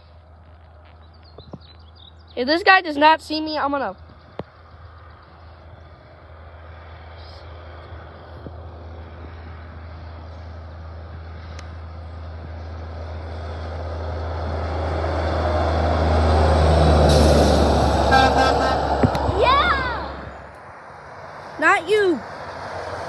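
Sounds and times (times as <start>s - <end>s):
truck engine and tyre noise: 0.0s - 23.0s.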